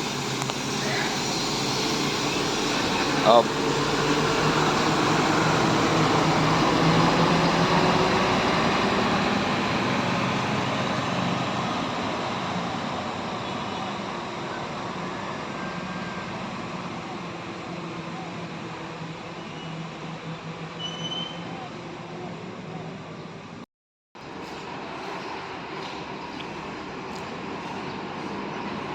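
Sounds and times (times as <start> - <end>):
diesel bus engine pulling away: 0.0 - 23.6, 24.2 - 28.9.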